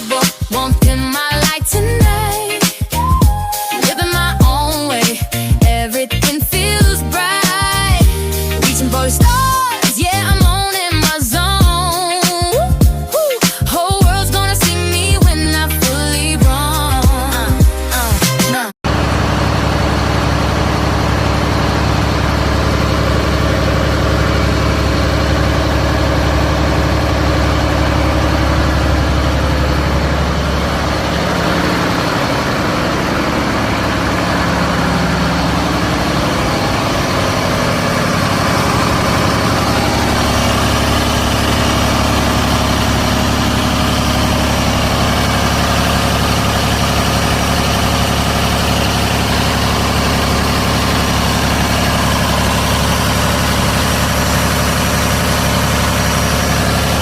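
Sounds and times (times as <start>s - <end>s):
diesel truck engine idling: 0.5s - 18.2s, 18.8s - 57.0s.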